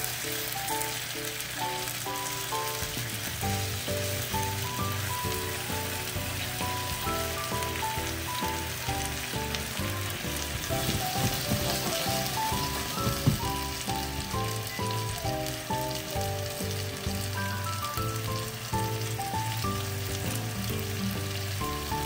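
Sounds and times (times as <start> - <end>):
light background music: 0.0 - 22.0
skewers sizzling in a frying pan: 0.0 - 22.0.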